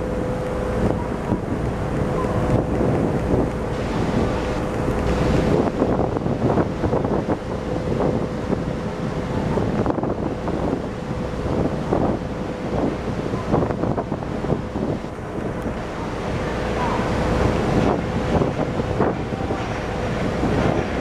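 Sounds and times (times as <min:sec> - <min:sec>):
boat engine humming: 0:00.0 - 0:21.0
wind buffeting microphone: 0:00.0 - 0:21.0.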